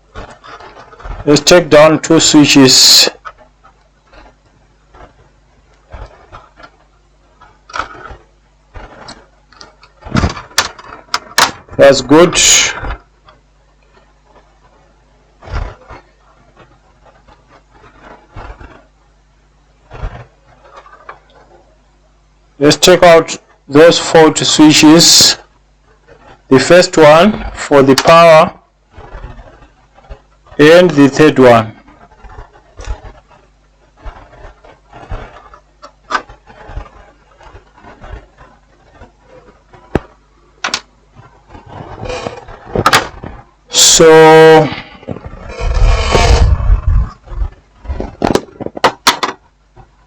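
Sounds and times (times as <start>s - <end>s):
light rubbing: 0.0s - 48.8s.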